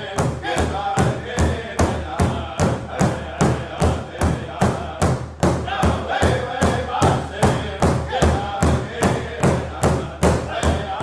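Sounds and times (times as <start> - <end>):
big drum beating: 0.0 - 11.0
men singing together: 0.0 - 11.0.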